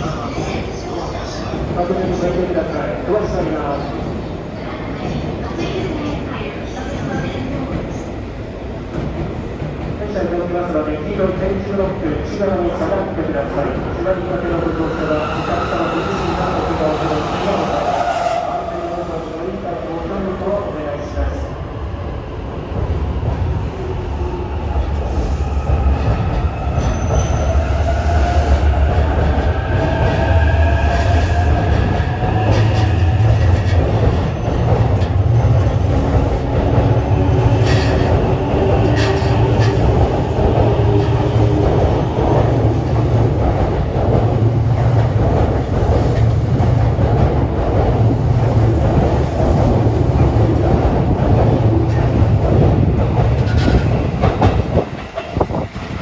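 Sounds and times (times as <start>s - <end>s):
train rumble and wheel noise: 0.0s - 56.0s.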